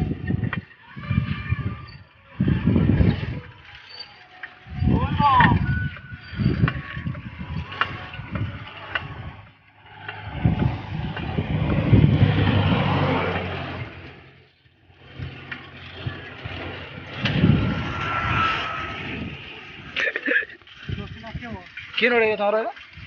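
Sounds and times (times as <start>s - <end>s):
vehicles passing on road: 0.0s - 20.9s.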